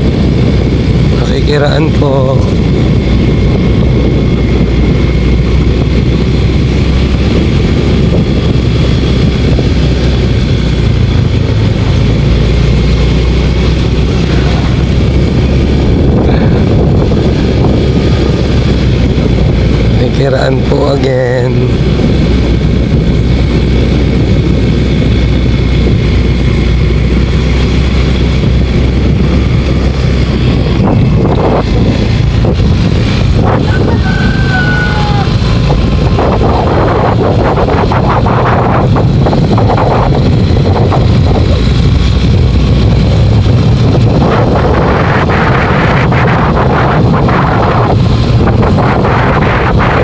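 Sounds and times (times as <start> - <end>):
small motorcycle engine running: 0.0 - 50.0
wind rushing over microphone: 0.0 - 50.0.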